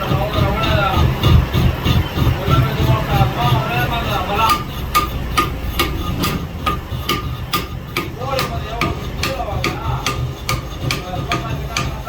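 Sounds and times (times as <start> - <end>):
hammer blows on metal: 0.0 - 12.0.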